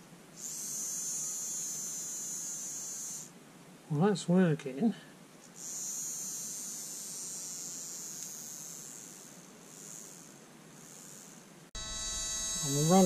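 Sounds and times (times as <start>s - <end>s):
small electric motor whirring: 0.4s - 3.4s, 5.4s - 13.0s.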